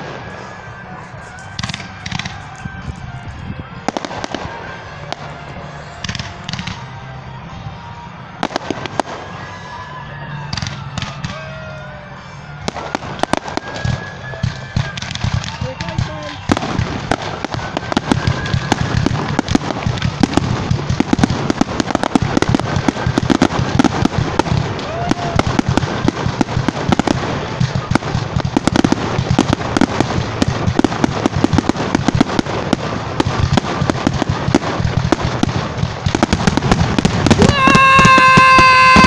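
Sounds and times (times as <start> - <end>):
fireworks crackling and popping: 0.0 - 39.0.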